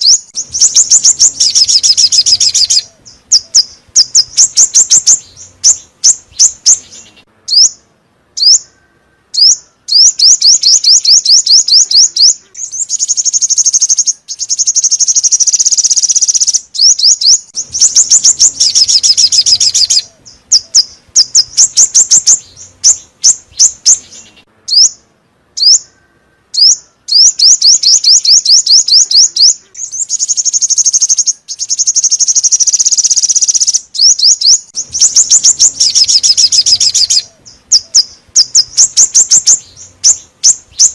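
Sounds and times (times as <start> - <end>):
songbird chirping trills: 0.0 - 40.9.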